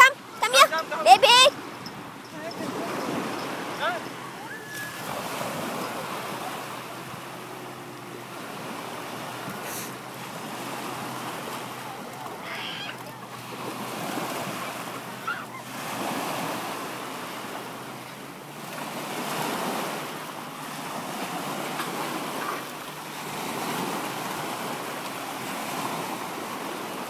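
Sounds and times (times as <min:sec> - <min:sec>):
small waves breaking on beach: 0:00.0 - 0:27.0.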